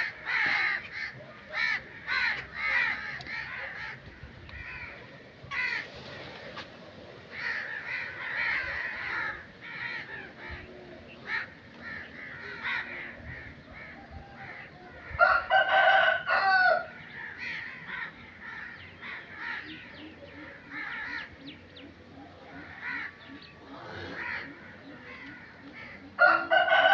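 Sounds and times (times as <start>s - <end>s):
crows cawing: 0.0s - 5.9s, 7.3s - 21.6s, 22.4s - 26.9s
loud drawn-out crow call: 0.0s - 5.9s, 7.3s - 21.4s, 22.6s - 26.9s.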